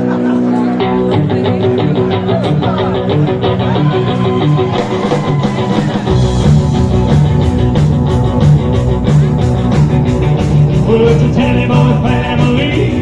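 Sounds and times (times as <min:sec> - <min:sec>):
bass guitar: 0:00.0 - 0:13.0
drums: 0:00.0 - 0:13.0
electric guitar: 0:00.0 - 0:13.0
rock and roll band playing: 0:00.0 - 0:13.0.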